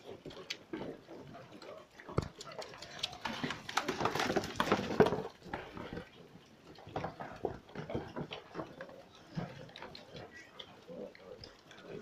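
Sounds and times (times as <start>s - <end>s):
piglets scuffling at feed bowls: 0.0s - 12.0s.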